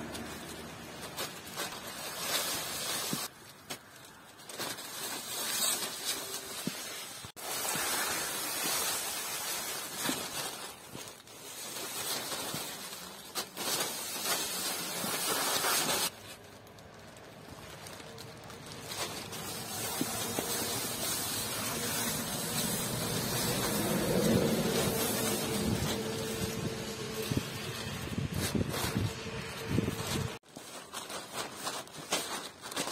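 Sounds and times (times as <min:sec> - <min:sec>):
plastic sheeting crinkling: 0:00.0 - 0:32.9.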